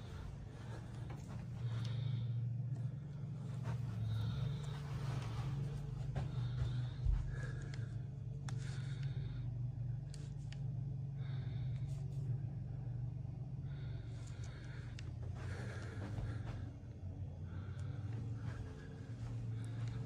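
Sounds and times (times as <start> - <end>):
low hum: 0.0 - 20.0
soft breaths: 0.0 - 20.0.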